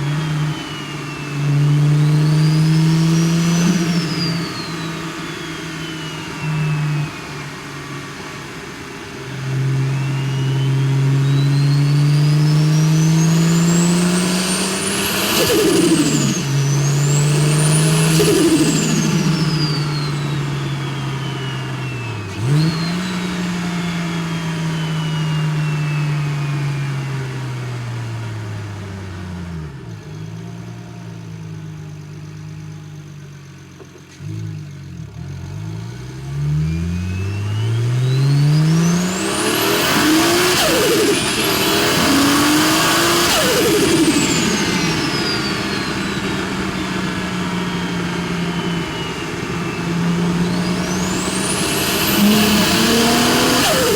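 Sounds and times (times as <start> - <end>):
turbo whistle: 0.0 - 28.2, 36.5 - 53.9
car engine accelerating: 0.0 - 53.9.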